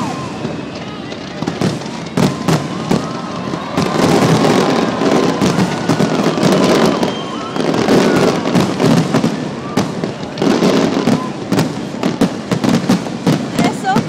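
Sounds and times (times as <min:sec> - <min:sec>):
fireworks booming and crackling: 0:00.0 - 0:14.0.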